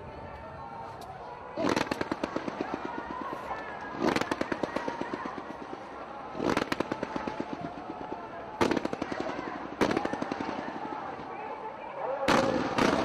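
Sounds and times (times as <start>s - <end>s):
fireworks crackling bangs: 1.6s - 13.0s.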